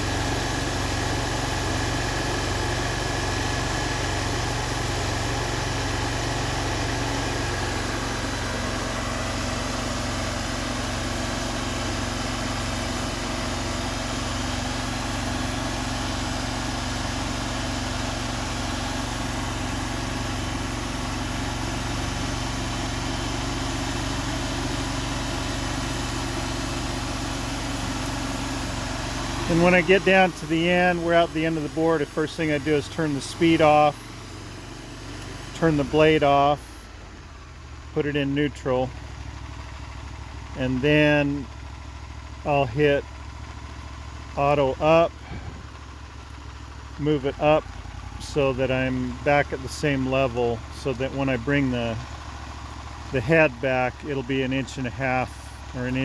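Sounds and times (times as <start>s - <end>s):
band sawmill sawing a log: 0.0s - 56.0s.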